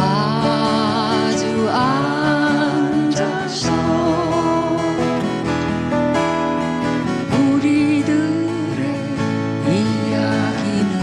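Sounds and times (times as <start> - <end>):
acoustic guitar accompaniment: 0.0 - 11.0
woman singing folk song: 0.0 - 11.0.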